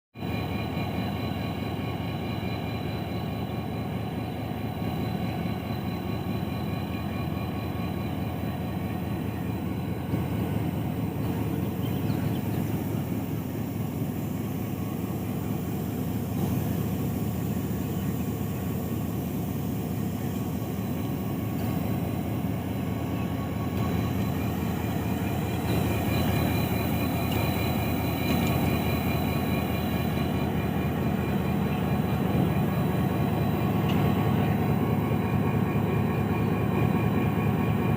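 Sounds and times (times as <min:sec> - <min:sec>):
diesel locomotive engine rumbling: 0:00.1 - 0:37.9.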